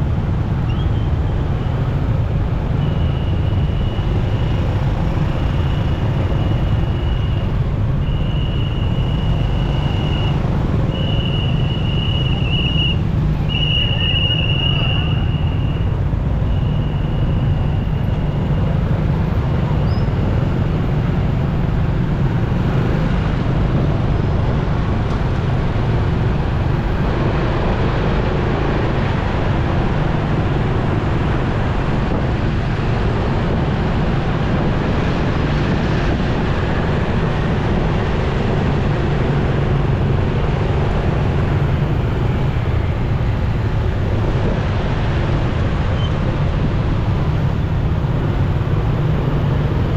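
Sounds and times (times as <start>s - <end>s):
road noise: 0.0s - 49.9s.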